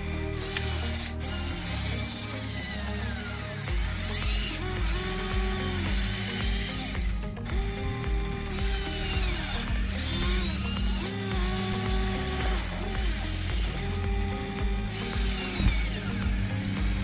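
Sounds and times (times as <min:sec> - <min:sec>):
electric motors and gears whining: 0:00.0 - 0:17.0
music with bass beat: 0:00.0 - 0:17.0.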